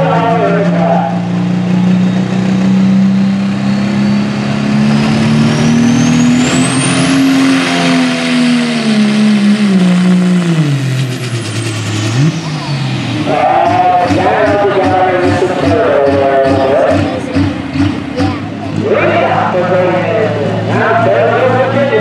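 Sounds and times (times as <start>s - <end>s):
diesel tractor engine under load: 0.0s - 22.0s.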